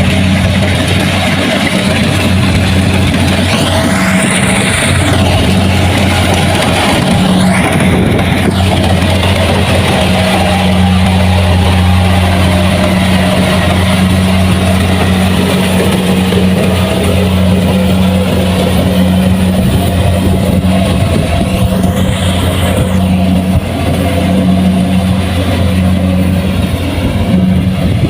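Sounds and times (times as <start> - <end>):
harvester engine drone: 0.0 - 28.0
threshing machinery clatter: 0.0 - 28.0.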